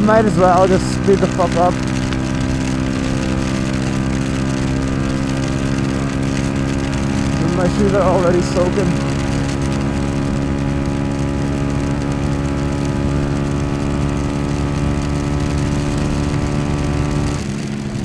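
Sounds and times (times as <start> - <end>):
motorcycle engine cruising: 0.0 - 18.0
wind rush: 0.0 - 18.0.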